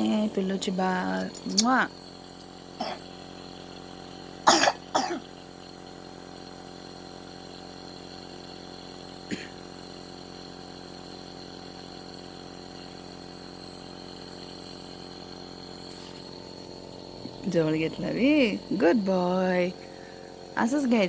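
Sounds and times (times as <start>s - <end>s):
nebulizer motor humming: 0.0s - 21.0s.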